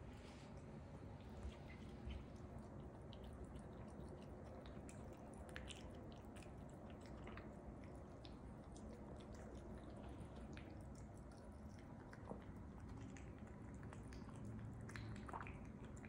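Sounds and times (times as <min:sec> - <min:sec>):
low steady hum: 0:00.0 - 0:16.0
cat chewing wet food: 0:00.1 - 0:16.0.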